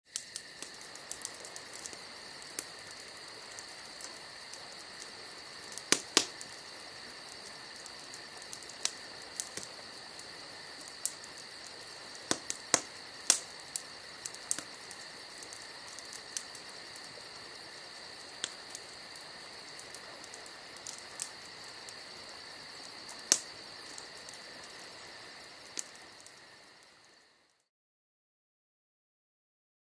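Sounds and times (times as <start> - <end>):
campfire crackling and popping: 0.1 - 27.6
crickets chirping: 0.1 - 27.7.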